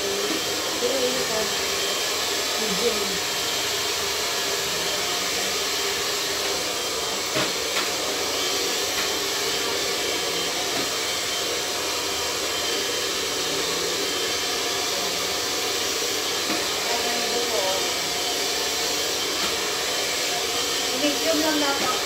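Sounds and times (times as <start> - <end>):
hair being brushed: 0.0 - 22.0
hair dryer blowing: 0.0 - 22.0.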